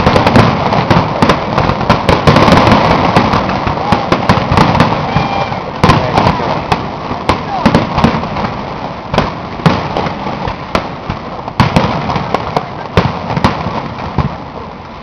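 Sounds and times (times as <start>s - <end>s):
firework shells bursting: 0.0s - 14.4s
fireworks rumble and crackle: 0.0s - 15.0s.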